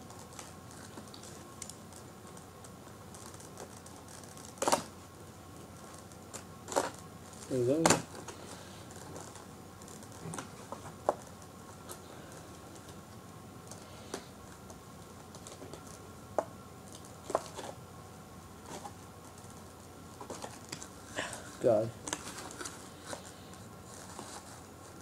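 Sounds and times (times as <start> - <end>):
faint background hum: 0.0 - 25.0.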